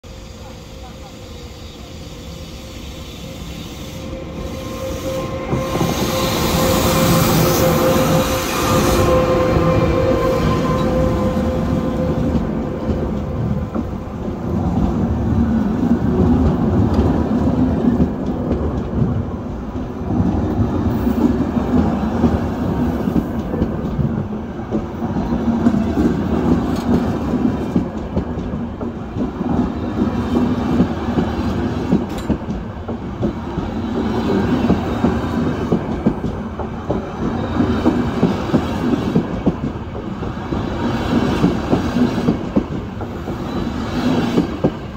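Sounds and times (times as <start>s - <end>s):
passenger train rumbling past: 0.0s - 44.9s.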